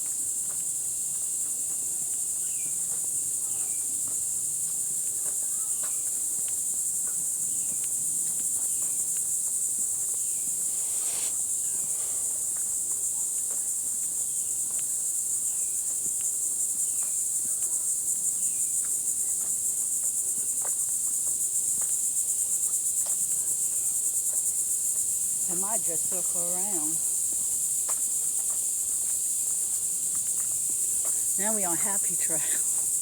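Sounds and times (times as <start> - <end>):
insects chorus: 0.2 - 33.0.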